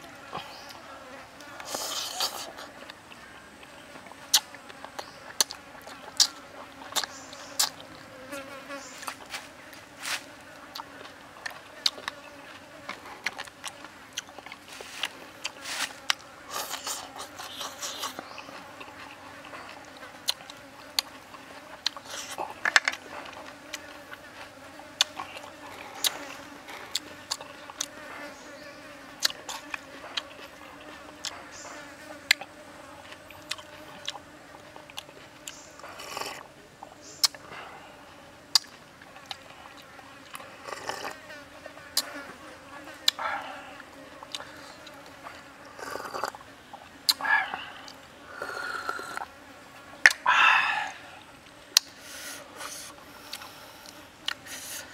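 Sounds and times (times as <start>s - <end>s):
chewing and crunching food: 0.0s - 49.4s, 50.1s - 54.9s.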